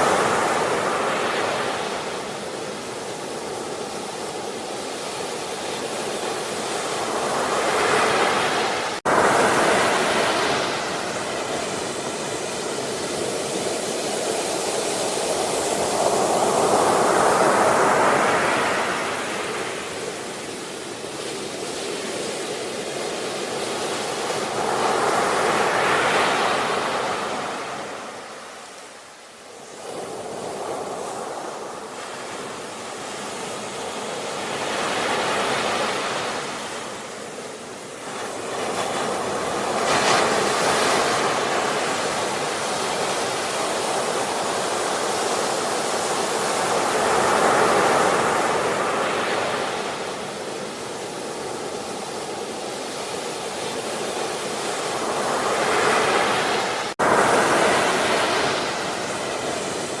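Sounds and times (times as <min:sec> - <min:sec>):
ocean waves on shore: 0:00.0 - 1:00.0.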